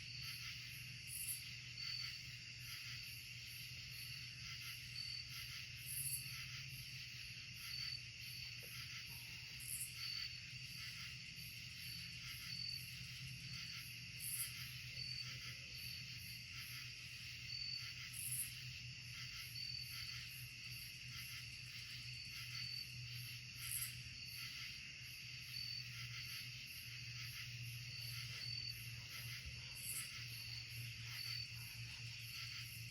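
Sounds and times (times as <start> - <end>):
insect chirps: 0.0 - 32.9
insects trilling: 0.0 - 32.9.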